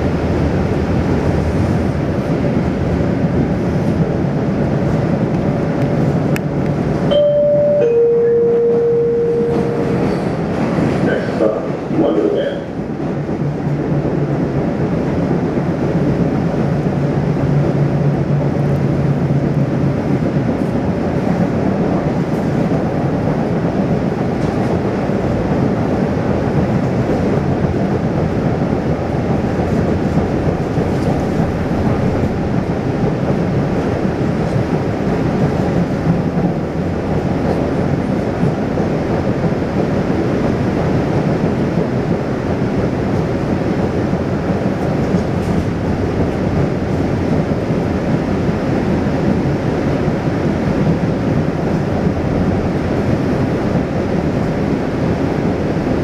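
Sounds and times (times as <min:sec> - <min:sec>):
subway wheels rumbling on rails: 0:00.0 - 0:56.0.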